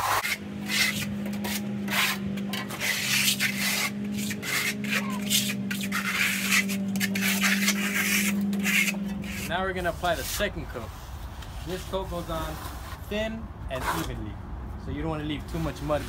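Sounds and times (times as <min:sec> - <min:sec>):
float rasping on stucco: 0:00.0 - 0:14.2.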